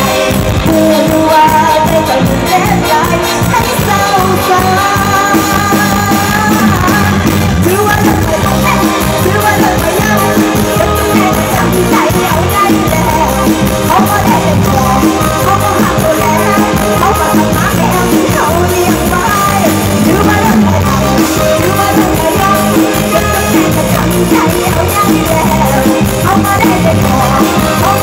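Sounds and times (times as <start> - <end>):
pop band music over loudspeakers: 0.0 - 28.0
woman singing: 0.0 - 28.0.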